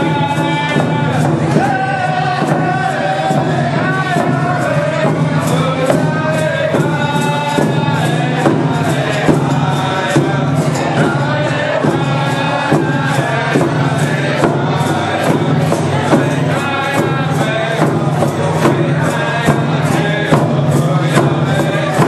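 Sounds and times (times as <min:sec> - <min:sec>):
group singing in chorus: 0:00.0 - 0:22.0
hand drums beating: 0:00.0 - 0:22.0.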